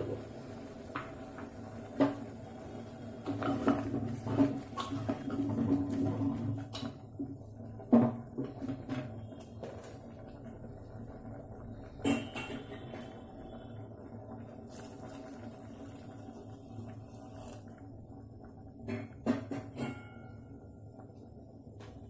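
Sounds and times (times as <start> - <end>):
faint bubbling: 0.0 - 19.2.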